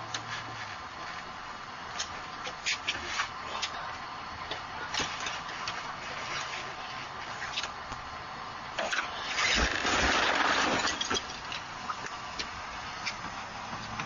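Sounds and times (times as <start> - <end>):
car engine rushing: 0.0 - 14.0
car scraping: 0.2 - 3.9, 4.5 - 7.8, 8.8 - 14.0.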